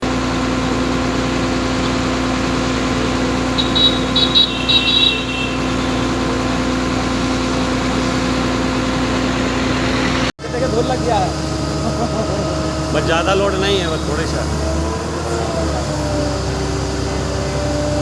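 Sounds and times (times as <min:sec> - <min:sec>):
motor humming: 0:02.6 - 0:18.0.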